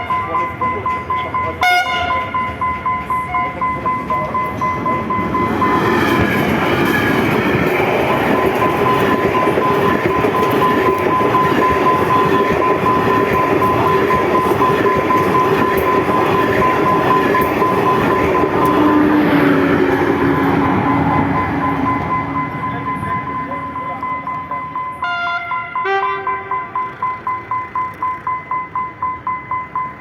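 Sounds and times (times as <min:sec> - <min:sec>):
train wheels rushing on track: 0:00.0 - 0:30.0.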